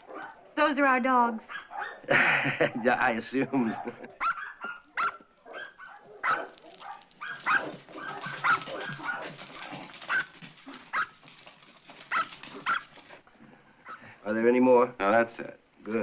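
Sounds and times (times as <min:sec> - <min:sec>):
dogs barking and yipping: 0:00.0 - 0:00.6, 0:01.5 - 0:14.2.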